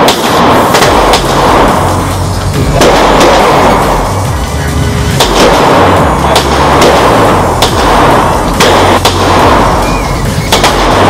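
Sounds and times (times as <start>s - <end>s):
pistol shots indoors: 0.0s - 4.2s, 5.2s - 11.0s
background music: 0.0s - 11.0s.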